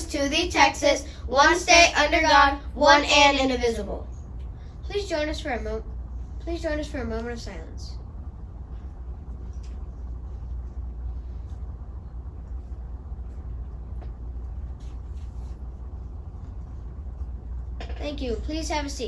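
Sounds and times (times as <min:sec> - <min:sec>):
low hum of room noise: 0:00.0 - 0:19.0.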